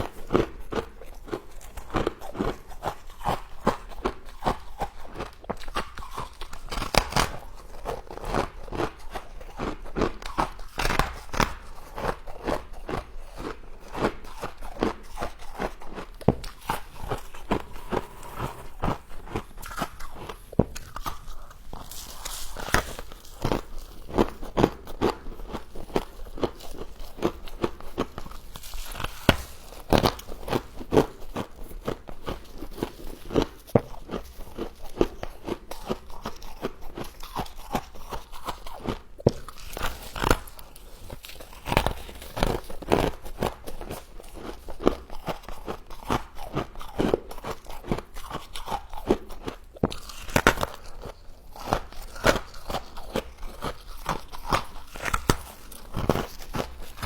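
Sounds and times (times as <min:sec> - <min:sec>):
crunching frost while chewing: 0:00.0 - 0:57.0.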